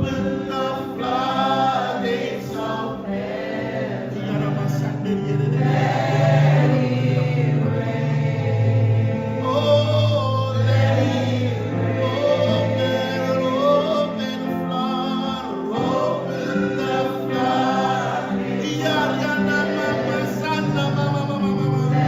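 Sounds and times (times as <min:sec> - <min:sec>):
choir singing gospel: 0:00.0 - 0:22.0.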